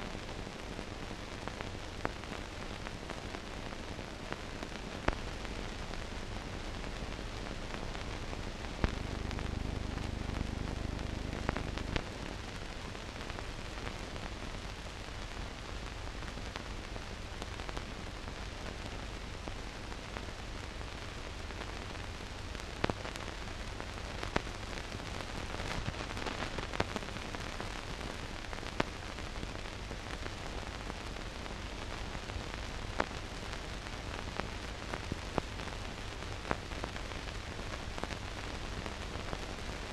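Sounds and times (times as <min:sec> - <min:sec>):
film hiss with sharp clicks: 0:00.0 - 0:39.9.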